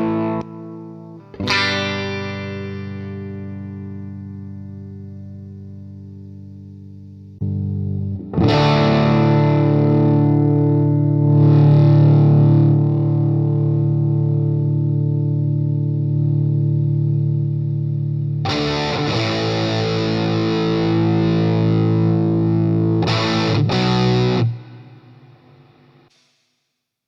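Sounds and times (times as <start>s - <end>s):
overdriven electric guitar chords: 0.0s - 26.1s.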